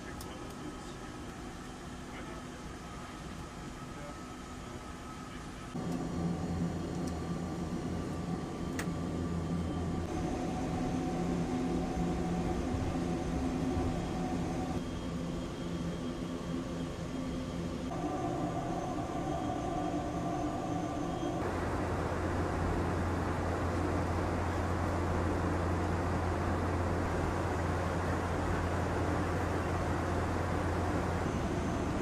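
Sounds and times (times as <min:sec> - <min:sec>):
turboprop engine drone: 0:00.0 - 0:32.0.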